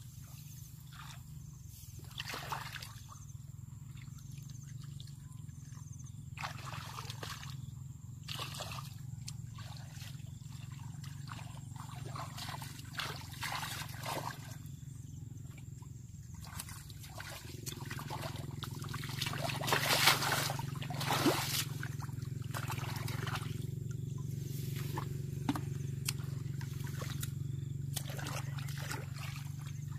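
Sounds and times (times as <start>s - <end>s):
steady low hum: 0.0s - 29.9s
water splashing and trickling: 2.0s - 3.2s, 3.9s - 7.6s, 8.2s - 14.8s, 15.4s - 29.9s.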